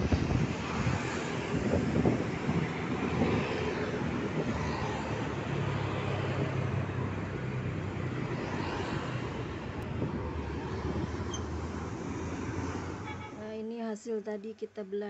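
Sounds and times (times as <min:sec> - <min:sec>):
wind noise: 0:00.0 - 0:07.5, 0:08.1 - 0:12.9
traffic: 0:00.0 - 0:15.0.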